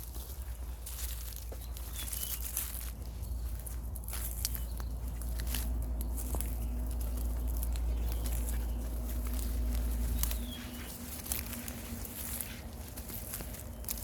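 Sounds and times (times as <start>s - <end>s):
footsteps through vegetation: 0.0s - 14.0s
wind rumble on microphone: 0.0s - 14.0s.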